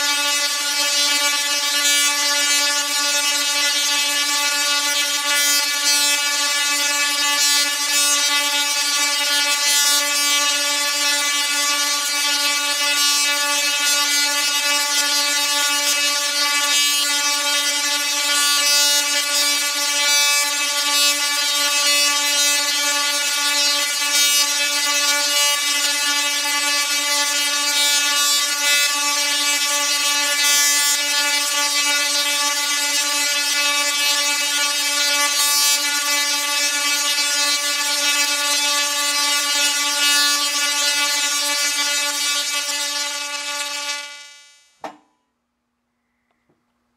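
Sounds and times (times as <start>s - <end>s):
tesla coil sparks buzzing: 0.0s - 44.8s.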